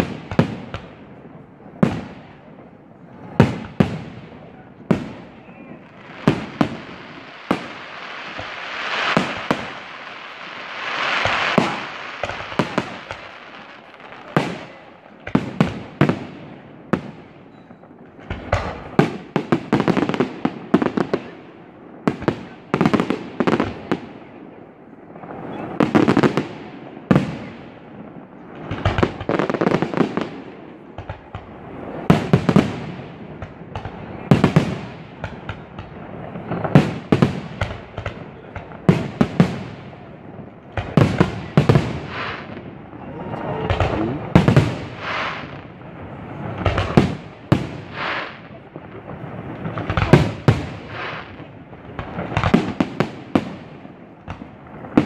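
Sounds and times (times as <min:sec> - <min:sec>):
fireworks bangs and cracks: 0:00.0 - 0:55.0.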